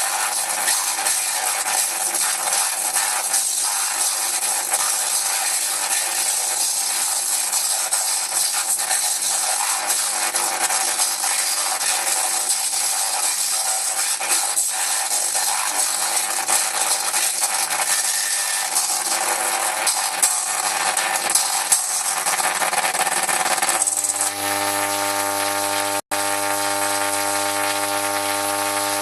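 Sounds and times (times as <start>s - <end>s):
tesla coil buzzing music: 0.0s - 29.0s.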